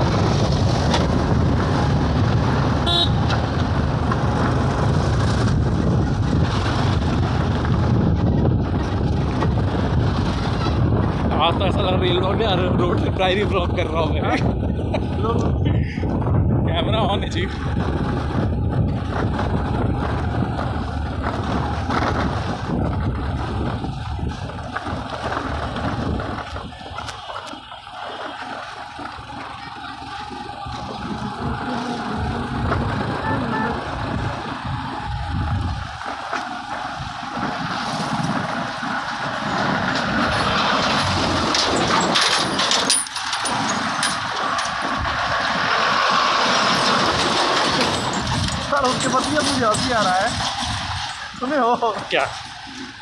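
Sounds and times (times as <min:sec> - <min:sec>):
motorbike on dirt road: 0:00.0 - 0:53.0
vehicles passing close by: 0:00.0 - 0:53.0
wind buffeting microphone: 0:00.0 - 0:53.0.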